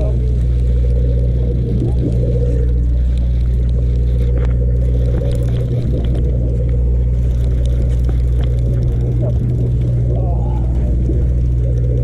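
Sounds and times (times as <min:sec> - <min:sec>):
boat engine droning: 0:00.0 - 0:12.0
light clicks and scrapes: 0:00.0 - 0:12.0.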